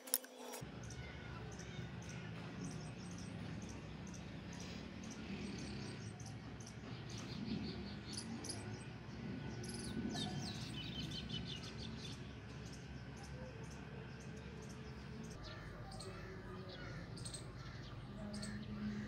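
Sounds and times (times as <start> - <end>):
low ambient noise: 0.0 - 19.0
small birds chirping: 0.4 - 19.0.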